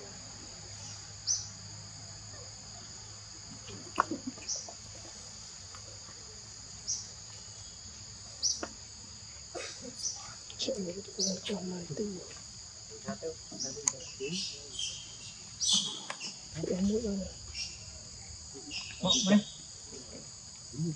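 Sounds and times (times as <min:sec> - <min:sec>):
forest insects droning: 0:00.0 - 0:20.9.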